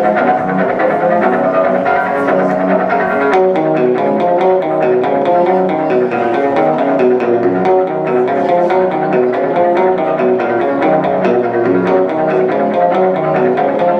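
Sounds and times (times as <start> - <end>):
looped guitar music: 0.0 - 13.9.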